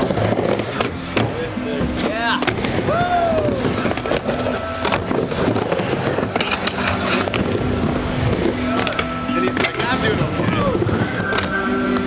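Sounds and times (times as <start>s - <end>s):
music: 0.0s - 12.0s
skateboard clacks: 0.0s - 12.0s
skateboard wheels rolling on wood: 0.0s - 12.0s.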